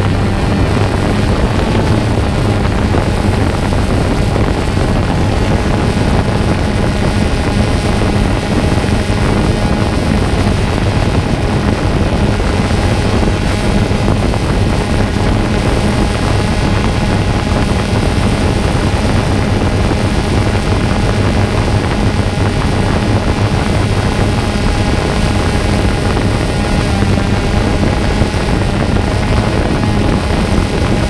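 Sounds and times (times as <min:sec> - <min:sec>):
drone motors humming: 0:00.0 - 0:31.0.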